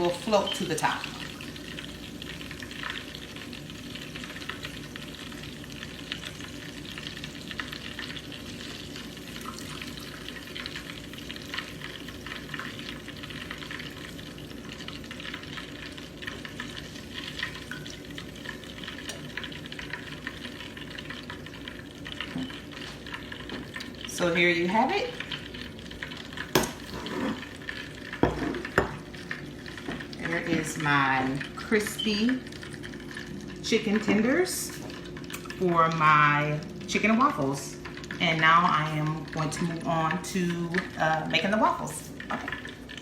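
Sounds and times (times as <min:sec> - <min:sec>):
chicken frying in oil: 0:00.0 - 0:43.0.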